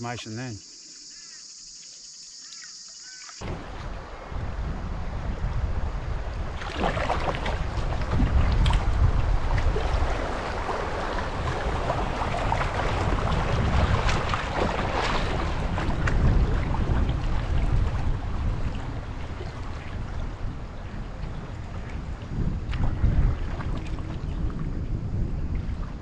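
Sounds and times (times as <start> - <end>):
water rushing along canoe hull: 0.0 - 26.0
paddle stroke splashes: 1.1 - 4.4, 6.5 - 24.5
wind rumble on microphone: 3.4 - 26.0.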